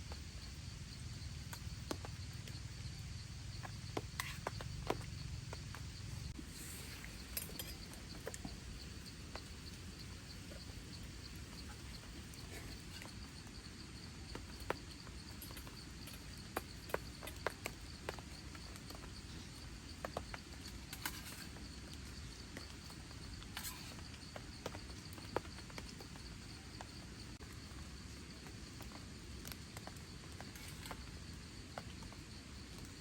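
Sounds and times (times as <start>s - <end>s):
steady hiss of rain: 0.0s - 33.0s.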